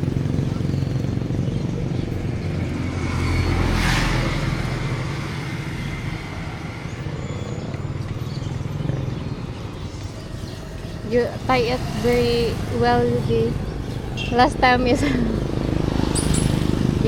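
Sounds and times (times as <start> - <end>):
vehicle engine running: 0.0 - 17.0
vehicle passing by: 0.0 - 17.0.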